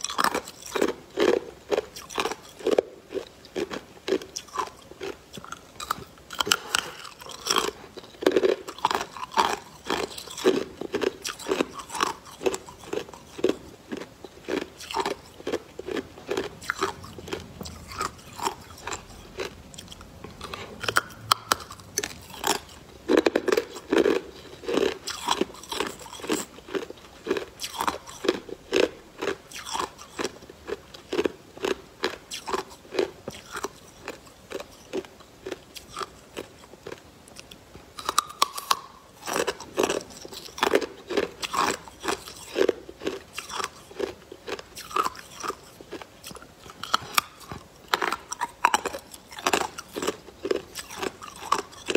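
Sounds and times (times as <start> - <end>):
ice crunching between teeth: 0.0 - 51.9.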